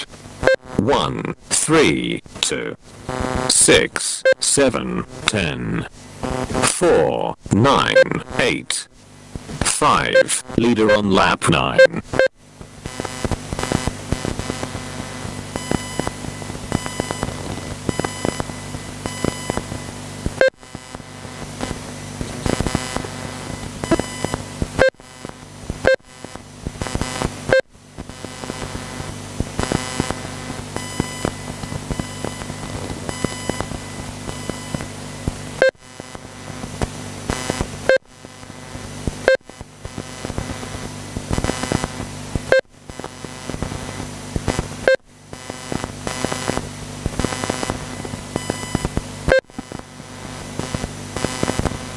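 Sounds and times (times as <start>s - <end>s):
steady electrical hum: 0.0s - 51.9s.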